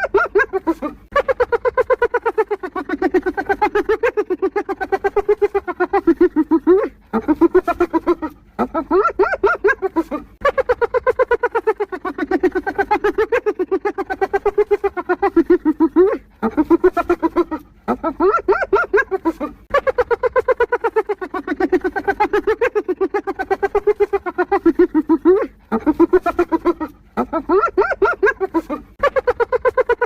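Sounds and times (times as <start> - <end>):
hyena laughing: 0.0 - 30.0.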